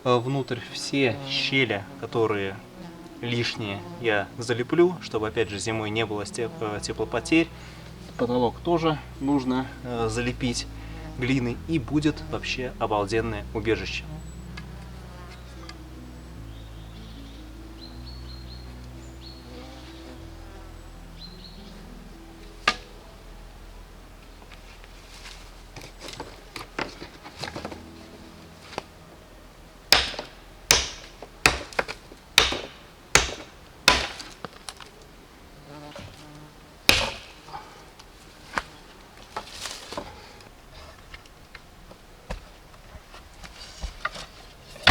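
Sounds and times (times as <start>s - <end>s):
faint insect buzz: 0.0s - 31.4s, 34.2s - 41.1s.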